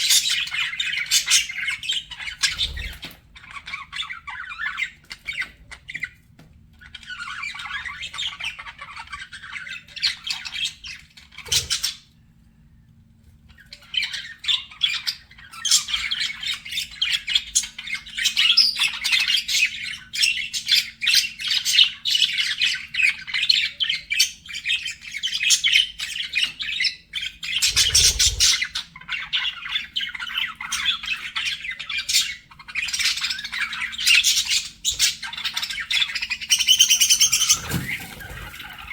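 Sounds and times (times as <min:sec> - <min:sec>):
budgerigars chattering: 0:00.0 - 0:06.1, 0:06.9 - 0:12.1, 0:13.6 - 0:38.9.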